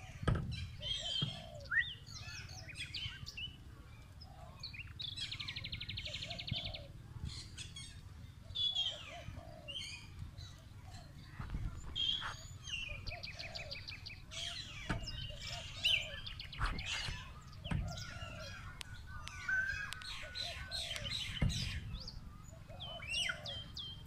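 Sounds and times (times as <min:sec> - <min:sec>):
small birds chirping and trilling: 0:00.0 - 0:24.0.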